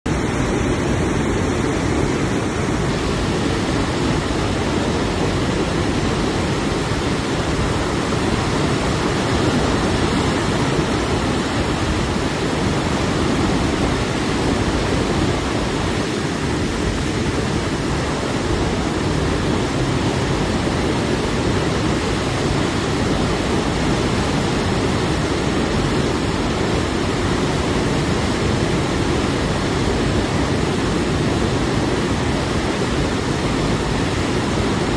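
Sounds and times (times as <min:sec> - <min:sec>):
steady low rushing noise: 0:00.1 - 0:34.9.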